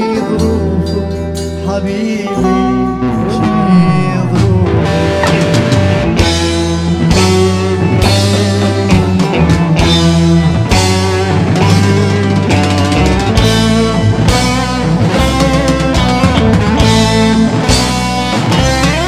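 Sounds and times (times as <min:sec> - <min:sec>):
live band instrumental music: 0:00.0 - 0:19.0.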